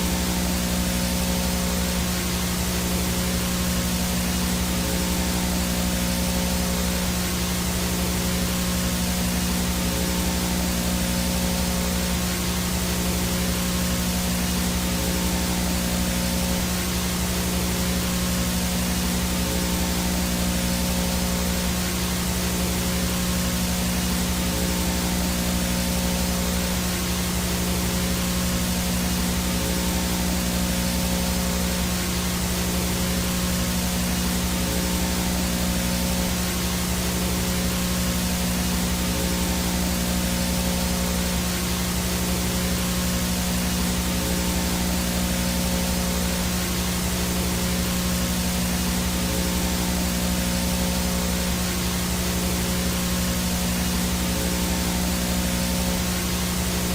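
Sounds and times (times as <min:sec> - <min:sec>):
low electrical buzz: 0:00.0 - 0:56.9
video static hiss: 0:00.0 - 0:56.9.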